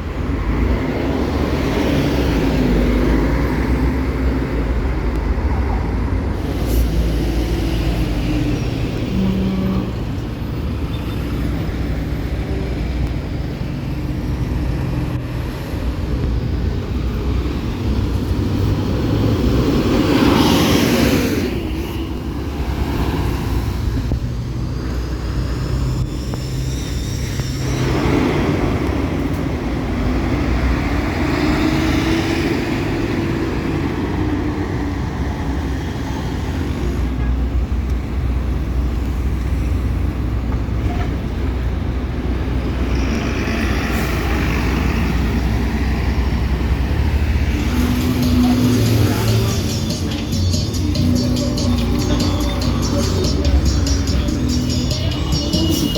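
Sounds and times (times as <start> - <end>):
heavy vehicle engine rumble: 0.0 - 55.9.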